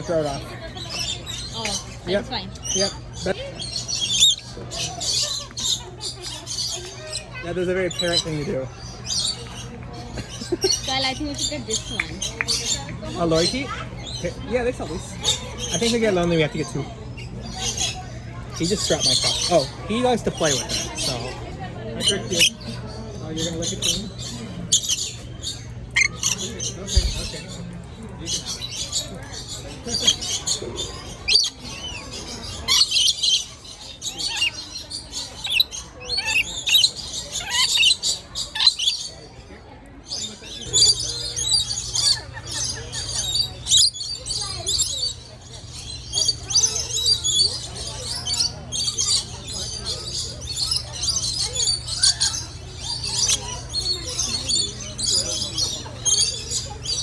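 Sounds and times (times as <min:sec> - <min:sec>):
lorikeets chirping and screeching: 0:00.0 - 0:57.0.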